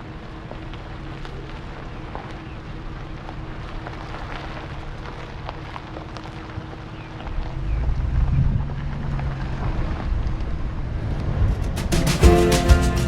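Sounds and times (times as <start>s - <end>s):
stones crackling under tyres: 0.0s - 10.8s
road rumble: 0.0s - 12.0s.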